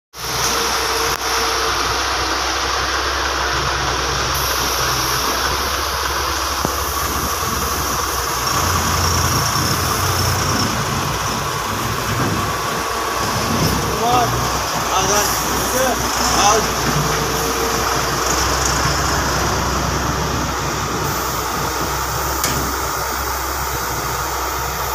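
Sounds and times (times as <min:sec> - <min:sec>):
heavy diesel engines running: 0:00.2 - 0:24.9.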